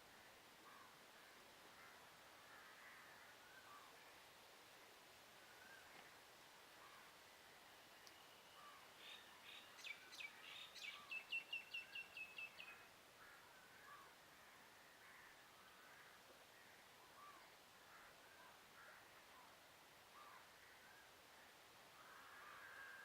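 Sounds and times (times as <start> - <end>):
faint distant bird calls: 0.0 - 23.0.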